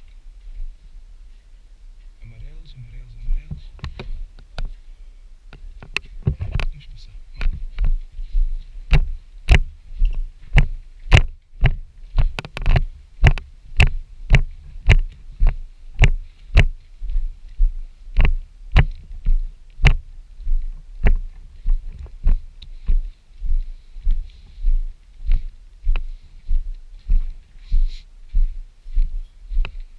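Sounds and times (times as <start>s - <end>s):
heavy footsteps with clicks: 3.3s - 4.8s, 5.5s - 29.9s.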